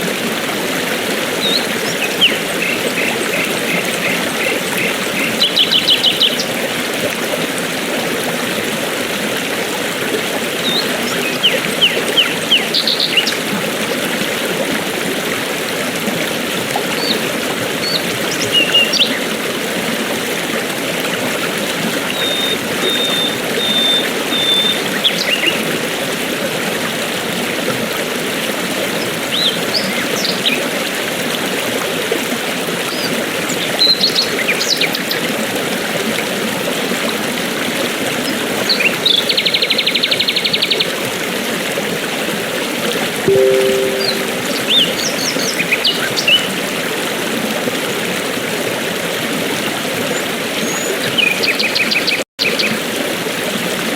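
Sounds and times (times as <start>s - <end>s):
rushing stream: 0.0s - 45.5s, 46.2s - 53.9s.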